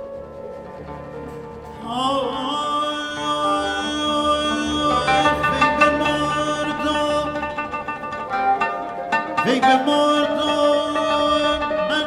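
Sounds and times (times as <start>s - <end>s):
plucked strings: 0.0s - 12.0s
sustained sliding melodic line: 0.0s - 12.0s.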